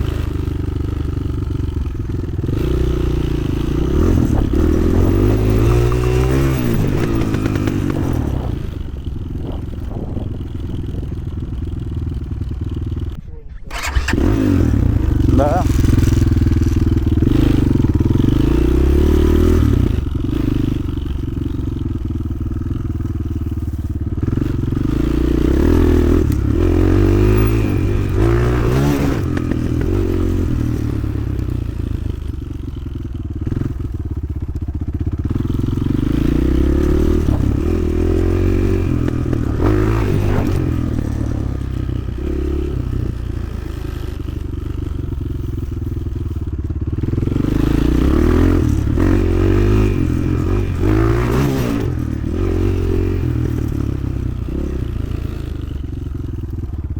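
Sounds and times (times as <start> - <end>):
motorcycle engine revving: 0.0 - 56.9
motorcycle rattling and scraping: 0.0 - 56.9.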